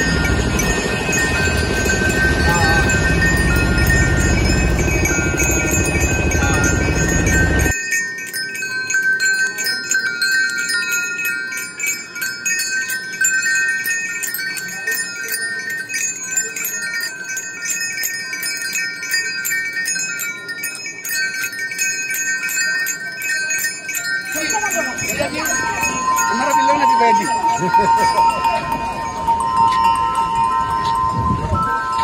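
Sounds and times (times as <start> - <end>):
chimes music: 0.0 - 32.0.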